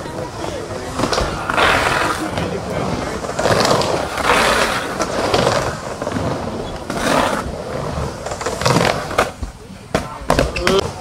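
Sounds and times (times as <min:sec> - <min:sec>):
skateboard wheels rolling on wood: 0:00.0 - 0:11.0.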